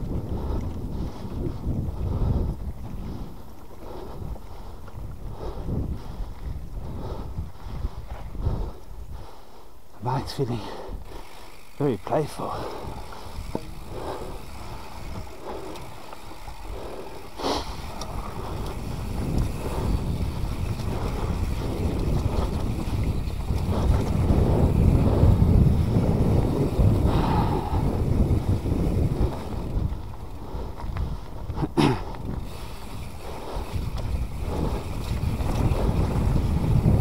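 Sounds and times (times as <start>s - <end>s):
bike tyres rumbling on dirt: 0.0s - 9.3s, 10.0s - 37.0s
wind buffeting microphone: 0.0s - 37.0s.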